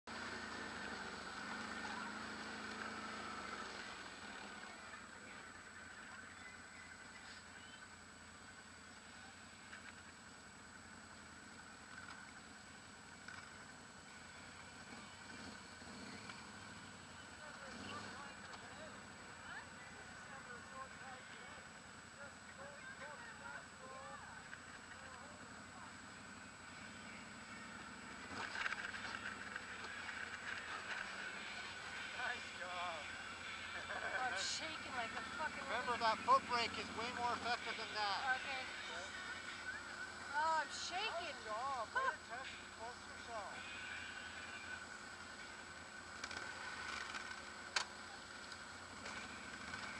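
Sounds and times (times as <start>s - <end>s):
faint engine running: 0.0s - 49.9s.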